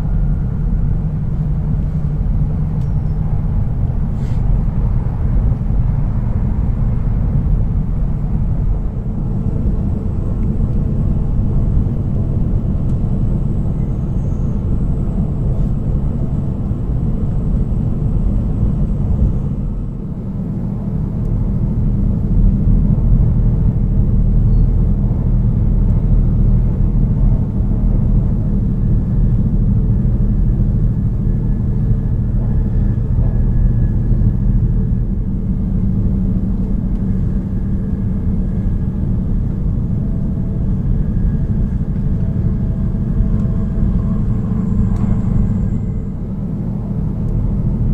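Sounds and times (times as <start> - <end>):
train rumbling from inside: 0.0 - 47.9.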